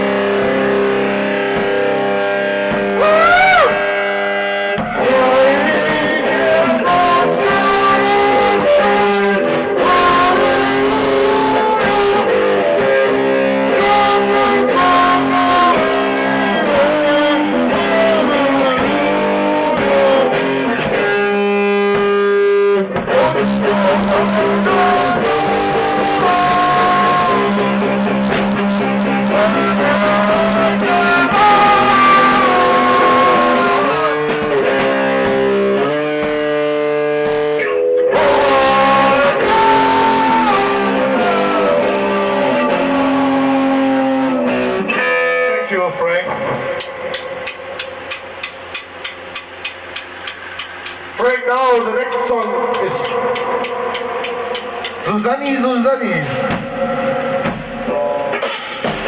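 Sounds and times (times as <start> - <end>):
carol played on guitar: 0.0 - 51.2.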